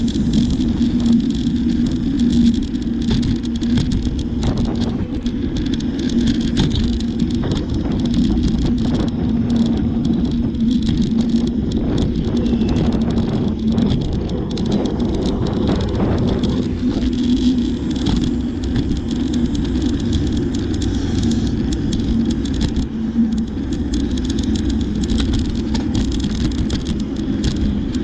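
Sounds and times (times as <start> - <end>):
bicycle rattles and clicks: 0.0 - 28.0
bicycle riding rumble: 0.0 - 28.0.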